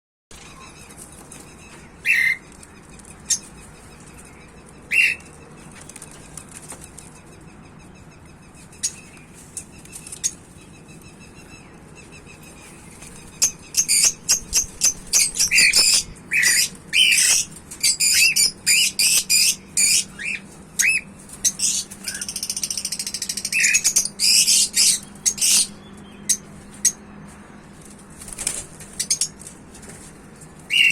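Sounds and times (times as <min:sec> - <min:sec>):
pet birds chirping: 0:00.4 - 0:30.9.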